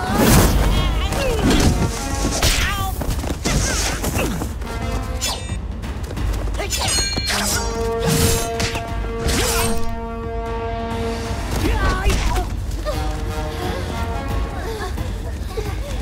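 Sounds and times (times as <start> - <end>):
action film music: 0.0 - 16.0.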